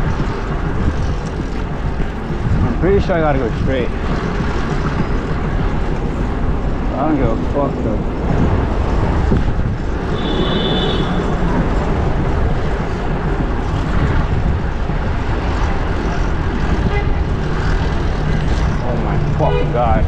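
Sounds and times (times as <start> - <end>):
city traffic: 0.0 - 20.0
wind on microphone: 0.0 - 20.0.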